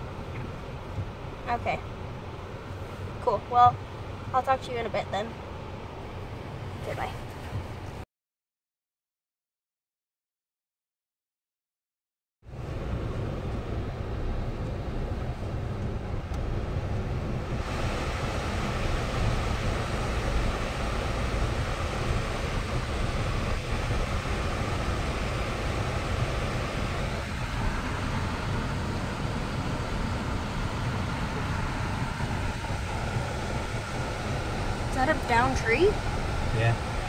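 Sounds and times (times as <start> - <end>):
in-cabin driving rumble: 0.0 - 8.0, 12.4 - 37.0.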